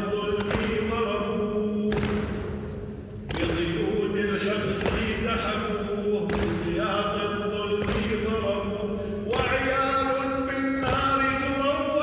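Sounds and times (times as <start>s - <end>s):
man chanting a lament: 0.0s - 2.5s, 3.3s - 12.0s.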